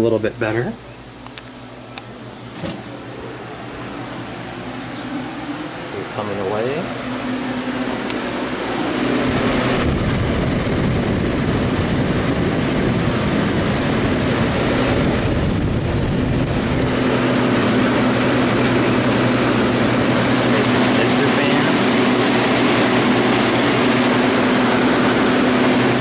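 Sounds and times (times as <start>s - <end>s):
compressor hum: 0.0s - 26.0s
condenser fan whoosh: 0.0s - 26.0s.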